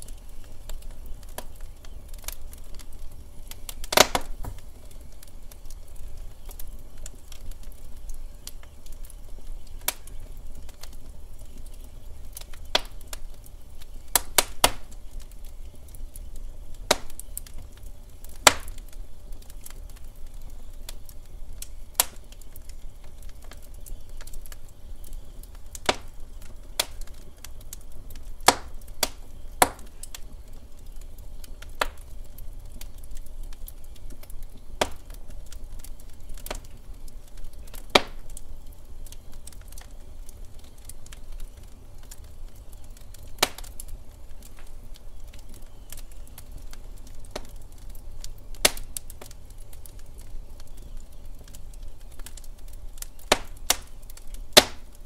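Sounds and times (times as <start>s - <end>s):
log fire crackling: 0.0s - 55.0s.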